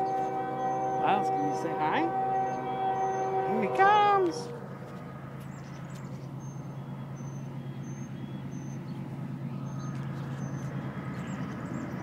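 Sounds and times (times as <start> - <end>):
heavy engine running: 0.0 - 12.0.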